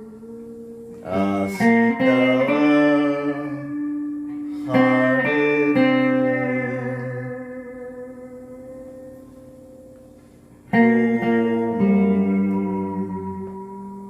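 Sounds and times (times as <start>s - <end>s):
plucked guitar chords: 0.0s - 14.0s.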